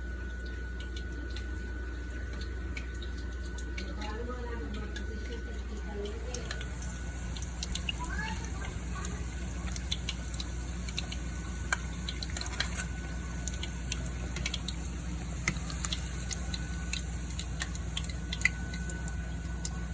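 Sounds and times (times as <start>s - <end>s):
chicken frying in hot oil: 0.0s - 19.9s
oil popping and crackling: 0.5s - 19.9s.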